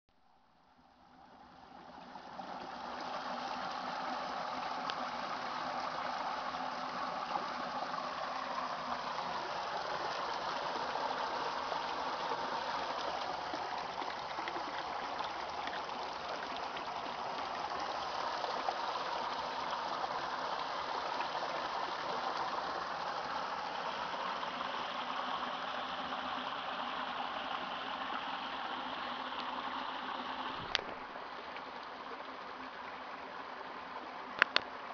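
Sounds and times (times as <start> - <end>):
flowing water rushing: 0.2 - 34.9.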